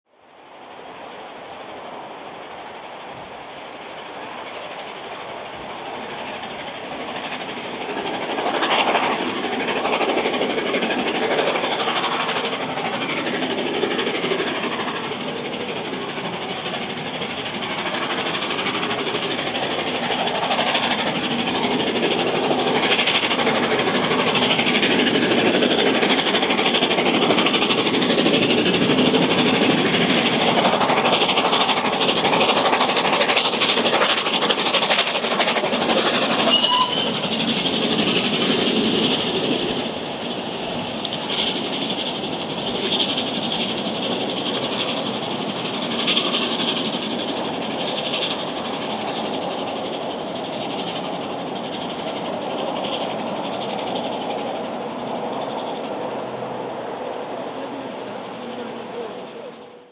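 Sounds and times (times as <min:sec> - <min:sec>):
steam locomotive working hard: 0:00.2 - 0:59.9.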